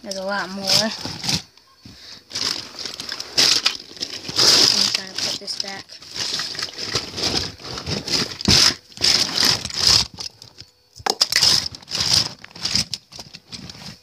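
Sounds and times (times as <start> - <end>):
rustling and crinkling: 0.0 - 14.0.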